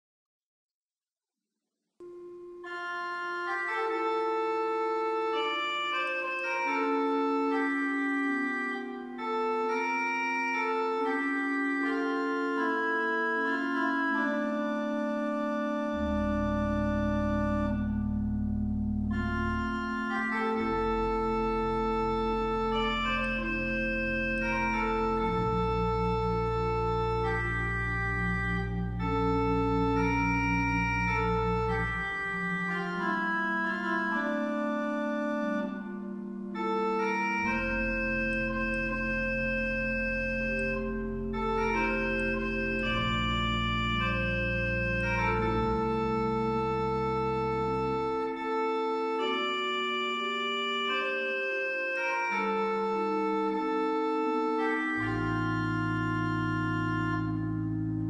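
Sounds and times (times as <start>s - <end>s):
organ pedal bass notes: 2.0s - 58.0s
pipe organ playing: 2.0s - 58.0s.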